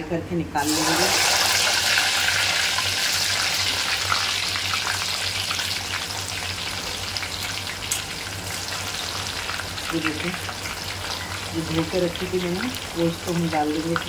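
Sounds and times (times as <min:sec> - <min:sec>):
vegetables sizzling in hot oil: 0:00.6 - 0:14.0.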